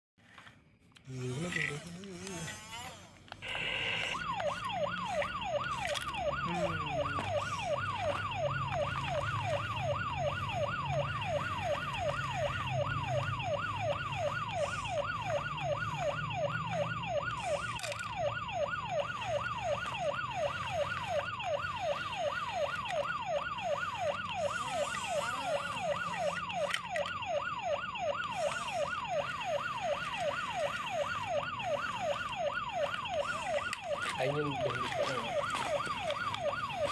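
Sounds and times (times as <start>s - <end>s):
electronic siren wailing: 1.1s - 36.9s.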